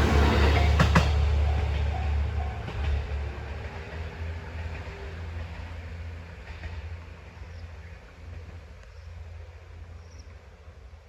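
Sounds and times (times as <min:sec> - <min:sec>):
diesel railcar rumble: 0:00.0 - 0:11.0.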